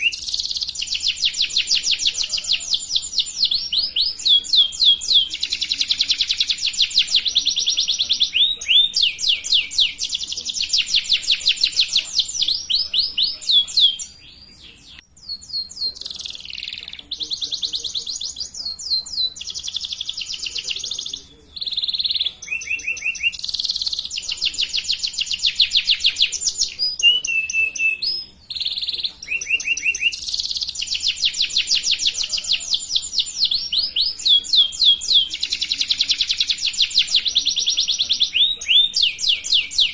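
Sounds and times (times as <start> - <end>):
canary singing in rapid trills: 0.0 - 39.9.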